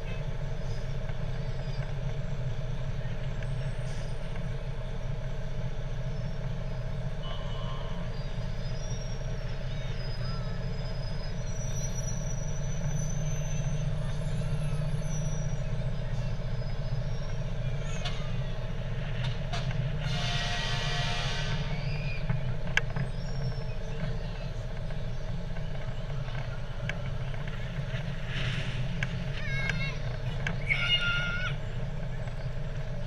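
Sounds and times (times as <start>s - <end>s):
fire truck engine running: 0.0s - 33.0s.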